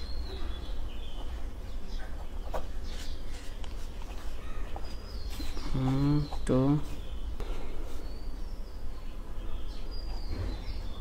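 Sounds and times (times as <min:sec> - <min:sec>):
bird chirps and calls: 0:00.0 - 0:03.6, 0:04.3 - 0:11.0
steady low hum: 0:00.0 - 0:11.0.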